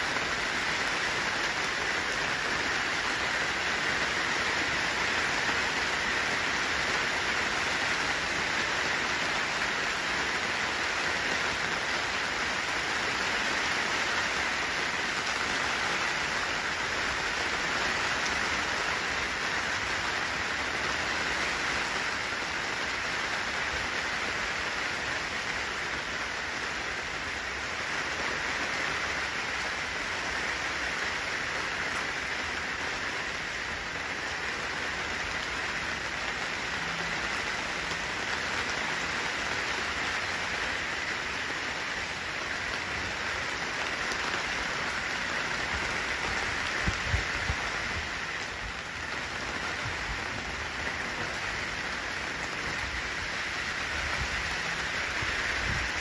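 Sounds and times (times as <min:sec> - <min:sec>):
rain on wet pavement: 0:00.0 - 0:56.0.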